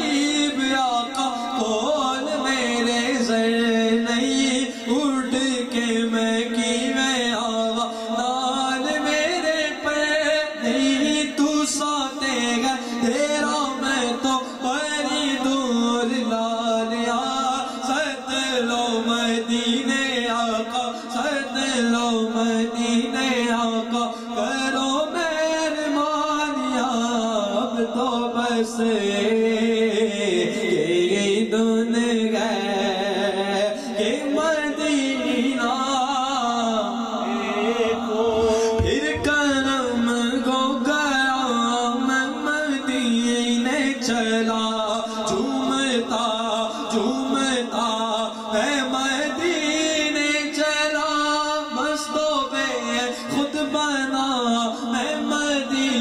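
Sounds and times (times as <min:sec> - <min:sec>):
man singing into a microphone: 0:00.0 - 0:56.0.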